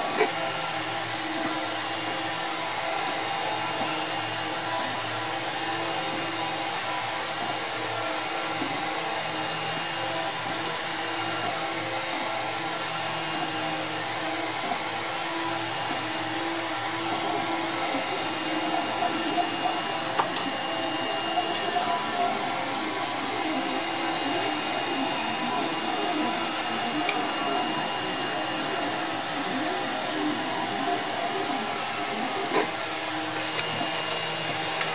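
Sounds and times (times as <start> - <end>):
stepper motors whining: 0.0 - 34.9.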